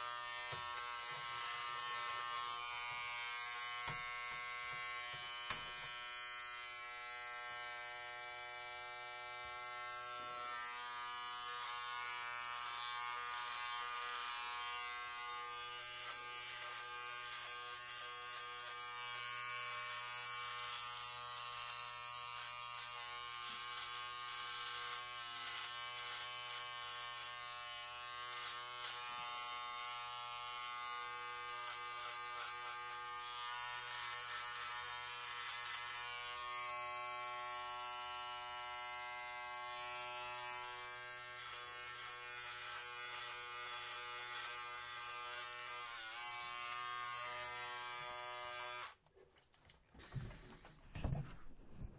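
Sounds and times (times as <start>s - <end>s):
electric hair clippers buzzing: 0.0s - 49.0s.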